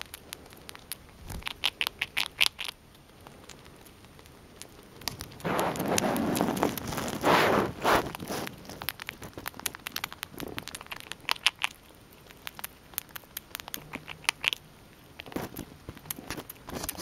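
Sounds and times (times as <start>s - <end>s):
squirrel crunching food: 0.0s - 17.0s.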